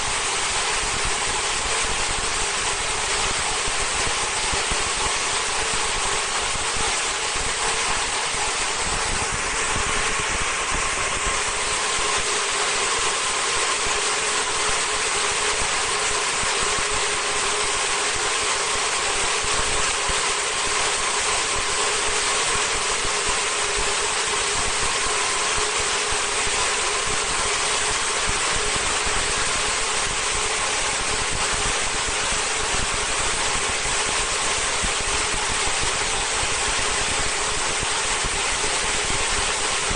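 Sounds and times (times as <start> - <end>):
machine whir and hiss: 0.0 - 39.9.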